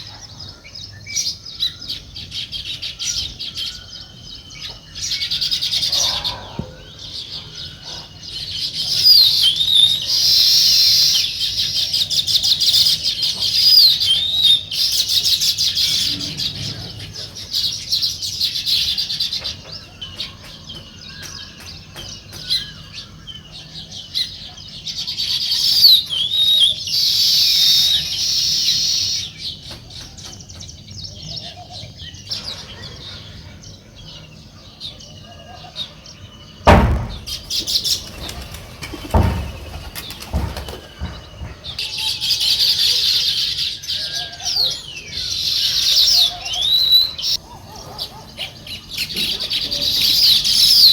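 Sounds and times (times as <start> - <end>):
sparrows chirping: 0.0 - 50.9.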